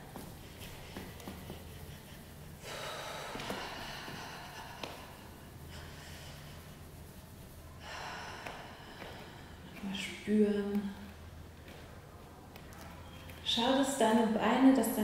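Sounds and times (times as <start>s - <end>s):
woman breathing: 0.0s - 12.1s.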